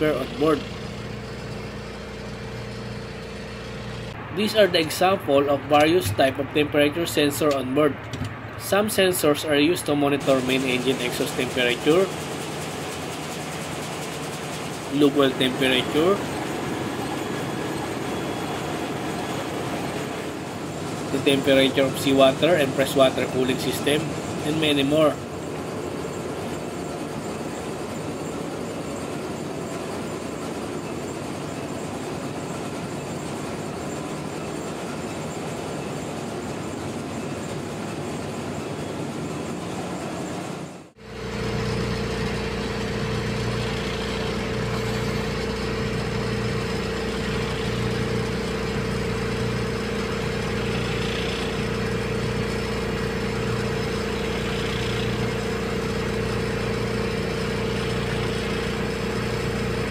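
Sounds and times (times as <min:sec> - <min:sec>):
engine-room machinery running: 0:00.0 - 0:59.9.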